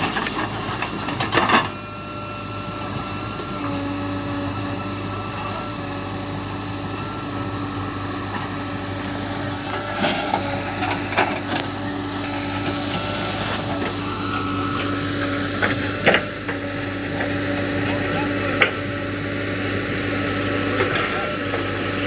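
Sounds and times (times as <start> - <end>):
diesel engine humming: 0.0 - 22.0
insects buzzing: 0.0 - 22.0.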